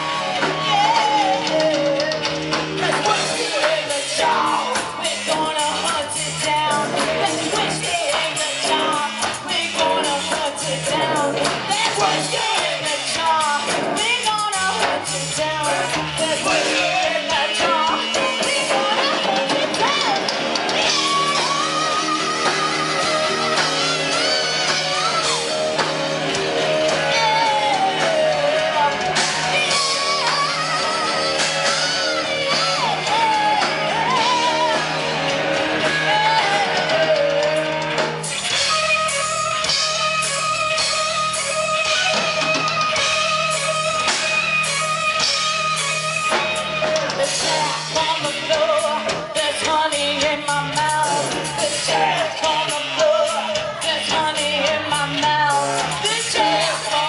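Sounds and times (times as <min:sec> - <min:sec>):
rock band playing: 0:00.0 - 0:57.0
woman singing lead vocal: 0:00.0 - 0:57.0.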